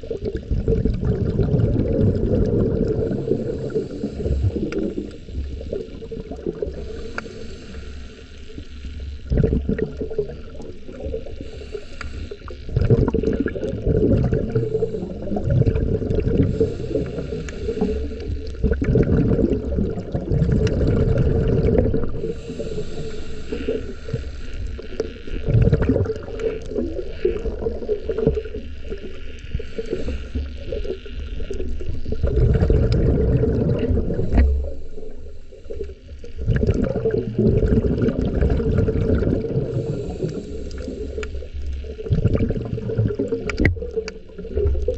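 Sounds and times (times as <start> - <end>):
muffled underwater water sloshing: 0.0 - 44.9.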